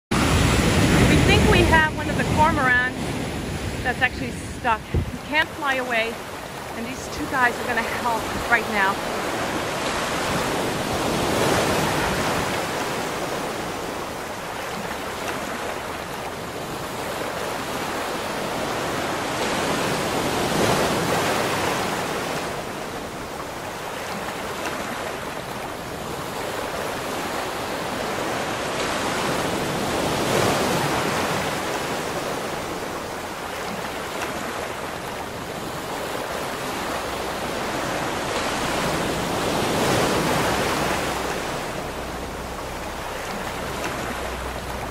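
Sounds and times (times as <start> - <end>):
ocean surf breaking on beach: 0.1 - 44.9.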